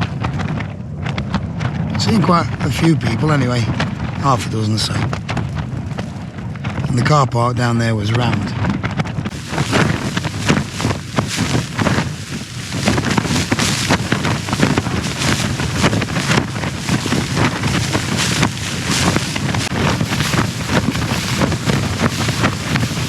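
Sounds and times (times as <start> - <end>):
tent fabric flapping in wind: 0.0 - 23.0
wind rumble on microphone: 0.0 - 23.0.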